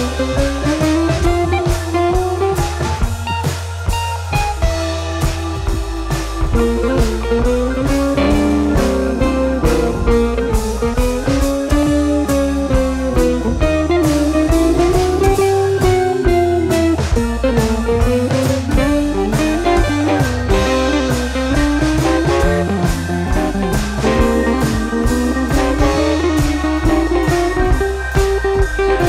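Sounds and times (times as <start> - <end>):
drum kit beat: 0.0 - 29.0
guitar with bending notes: 0.0 - 29.0.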